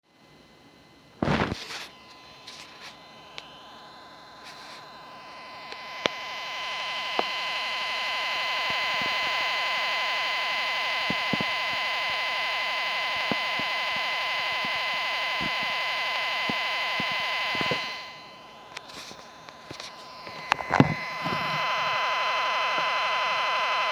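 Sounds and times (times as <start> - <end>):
loud buzzing hiss: 1.2 - 23.9
steady high electronic tone: 1.5 - 23.9.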